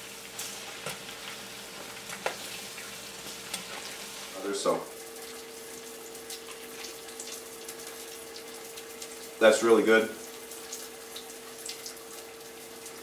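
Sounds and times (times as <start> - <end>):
faint steady hum: 0.0 - 13.0
food sizzling in hot oil: 0.0 - 13.0.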